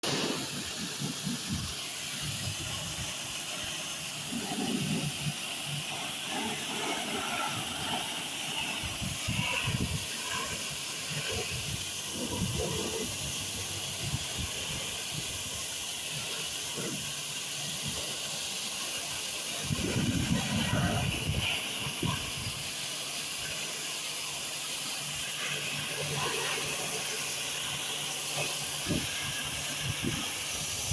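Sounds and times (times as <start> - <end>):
steady hiss: 0.0 - 30.9.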